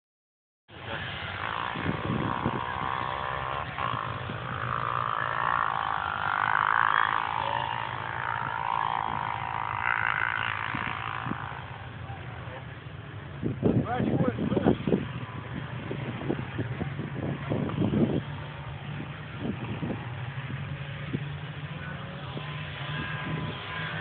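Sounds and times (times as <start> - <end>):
vehicle engines running: 0.7 - 24.0.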